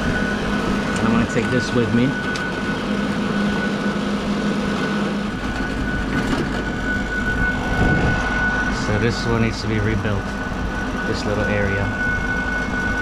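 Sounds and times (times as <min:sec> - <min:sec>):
machinery high-pitched whine: 0:00.0 - 0:13.0
machinery low hum: 0:00.0 - 0:13.0.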